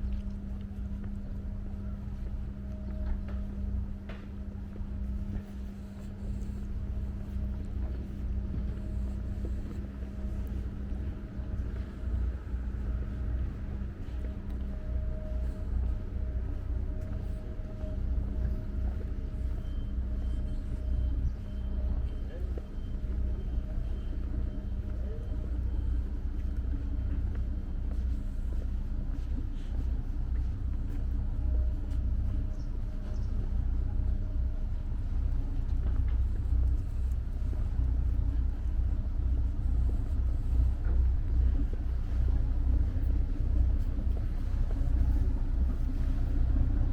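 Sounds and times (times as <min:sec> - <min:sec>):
faint voices: 0:00.0 - 0:46.9
low engine rumble: 0:00.0 - 0:46.9.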